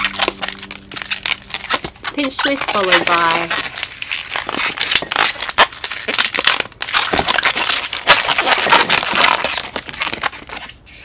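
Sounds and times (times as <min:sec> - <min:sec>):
latex balloon crackling: 0:00.0 - 0:11.0.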